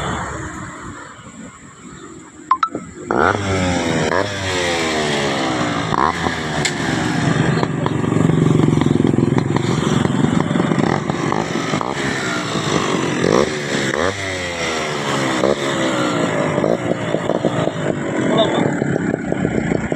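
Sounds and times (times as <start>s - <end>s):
two-stroke motorcycle engine revving: 2.7s - 19.9s.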